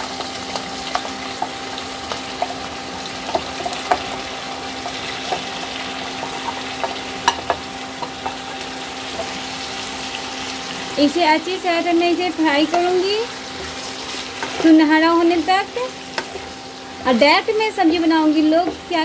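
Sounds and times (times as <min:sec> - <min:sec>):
root pieces sizzling in hot oil: 0:00.0 - 0:19.0.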